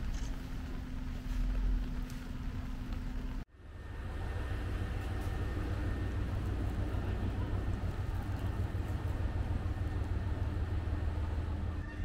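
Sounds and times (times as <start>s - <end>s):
railway station ambience rumble: 0.0s - 12.0s.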